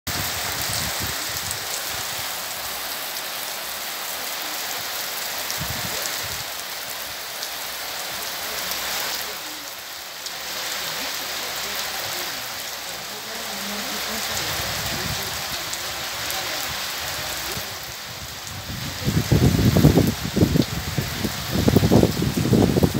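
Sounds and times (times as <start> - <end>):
heavy rain on plants: 0.0 - 22.9.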